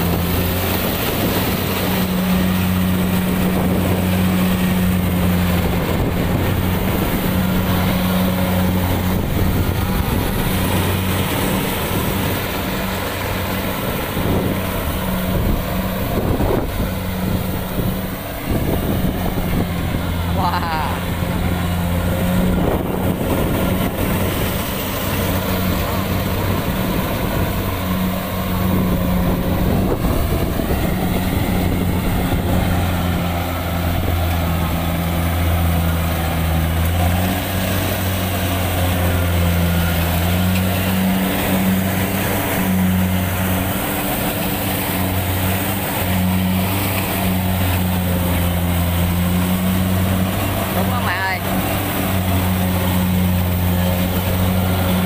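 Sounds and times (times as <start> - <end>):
diesel engine drone: 0.0 - 55.0.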